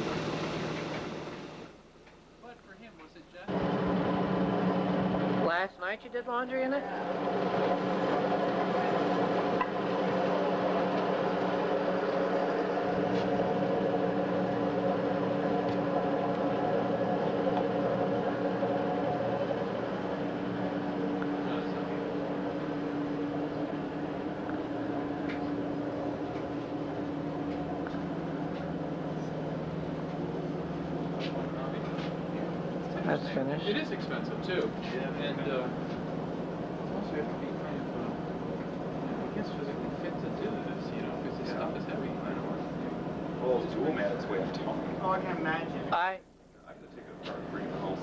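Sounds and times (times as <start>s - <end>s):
electric motor humming: 3.5s - 5.5s, 6.7s - 45.9s.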